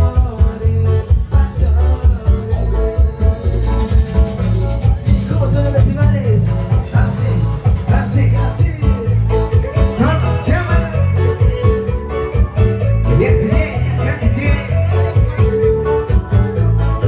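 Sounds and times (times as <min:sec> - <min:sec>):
live cumbia band music: 0:00.0 - 0:17.0.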